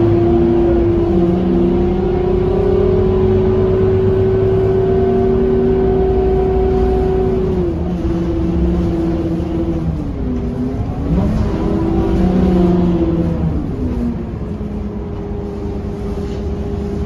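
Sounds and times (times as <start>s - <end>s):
bus engine rumble: 0.0s - 17.0s
bus whine: 0.0s - 17.0s.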